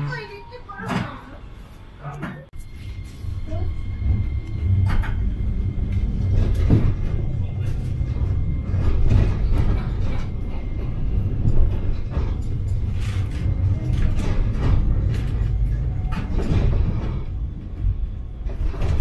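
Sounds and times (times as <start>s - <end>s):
streetcar motor and wheel rumble: 0.0s - 19.0s
wheels clicking over track joints: 3.6s - 19.0s.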